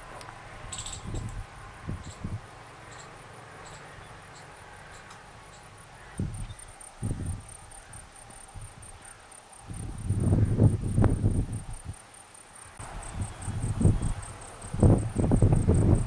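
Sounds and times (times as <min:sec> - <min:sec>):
insect chirping: 0:00.1 - 0:16.0.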